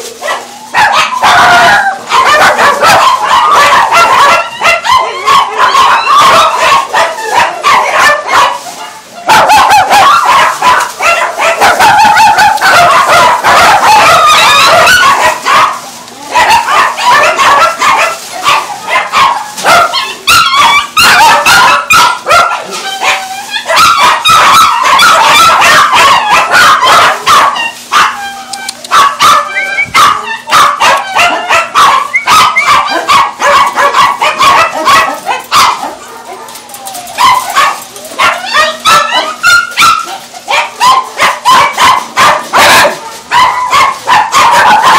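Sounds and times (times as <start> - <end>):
many dogs barking and yipping: 0.0 - 44.9.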